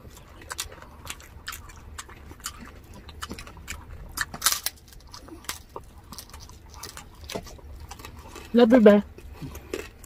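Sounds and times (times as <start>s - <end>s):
crunching crispy pork skin: 0.0s - 10.0s.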